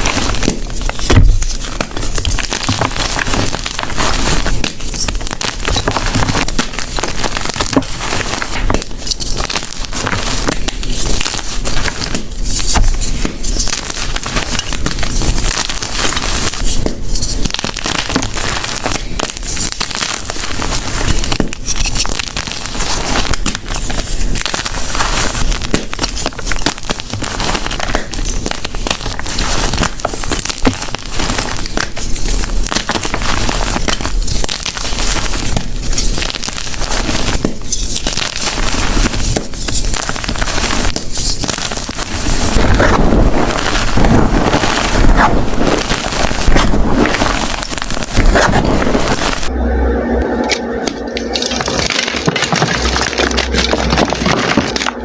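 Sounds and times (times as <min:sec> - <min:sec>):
chalk blocks being crushed: 0:00.0 - 0:49.5, 0:51.4 - 0:55.0.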